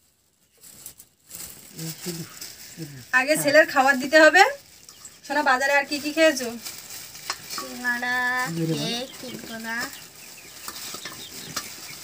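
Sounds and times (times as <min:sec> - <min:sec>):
plastic snack packet crackling: 0:00.0 - 0:12.0.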